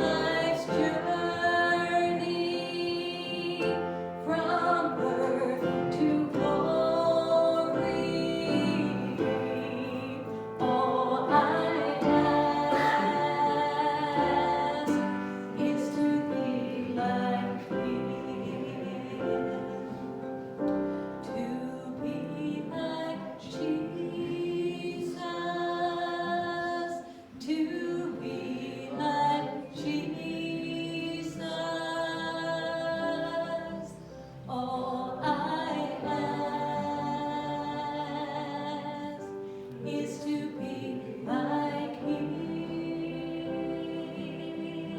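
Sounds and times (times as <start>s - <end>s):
group singing worship song: 0.0s - 44.9s
musical backing: 0.0s - 44.9s.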